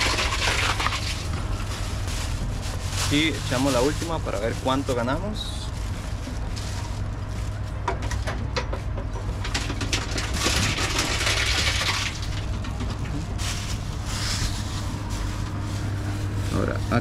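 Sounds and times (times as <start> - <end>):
machine low hum: 0.0 - 17.0.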